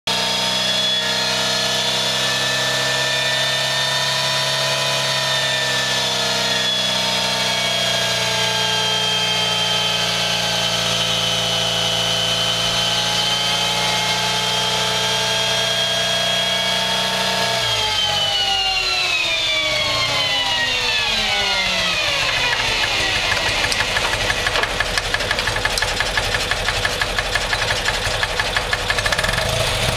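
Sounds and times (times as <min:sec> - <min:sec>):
motorcycle engine on dynamometer: 0:00.0 - 0:29.9.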